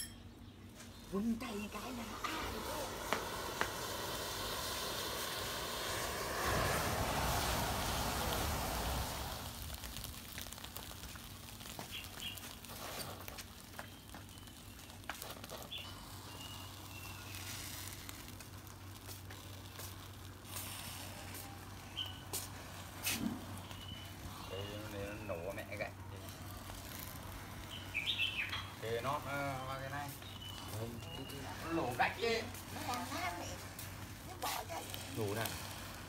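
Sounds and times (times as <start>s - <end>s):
fire crackling and popping: 0.2s - 36.0s
matches igniting with a whoosh: 1.2s - 36.0s.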